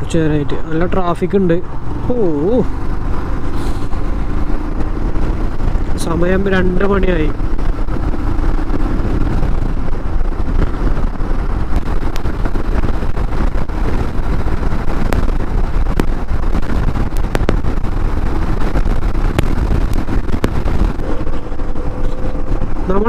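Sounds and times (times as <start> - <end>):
motorcycle engine: 0.0 - 23.0
wind rumble on microphone: 0.0 - 23.0.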